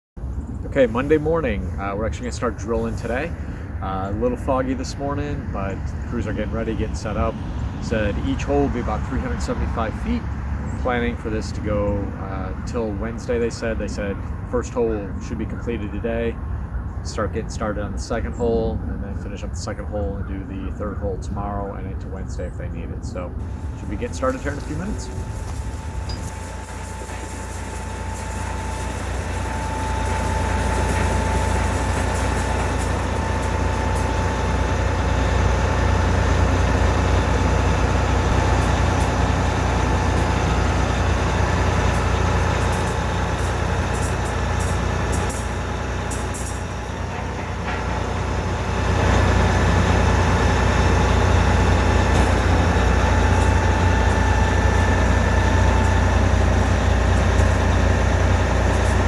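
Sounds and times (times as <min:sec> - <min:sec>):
diesel engine rumbling: 0:00.2 - 0:59.0
faint engine whine: 0:00.2 - 0:59.0.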